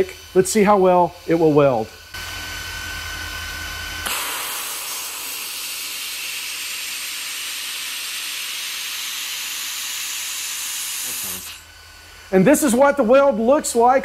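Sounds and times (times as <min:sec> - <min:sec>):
laser welder hissing: 0:00.0 - 0:02.9, 0:03.5 - 0:13.8.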